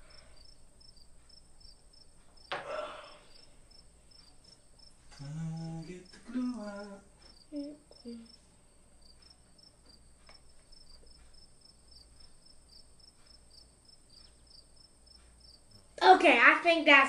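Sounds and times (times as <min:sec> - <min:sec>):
faint high whine: 0:00.0 - 0:16.4.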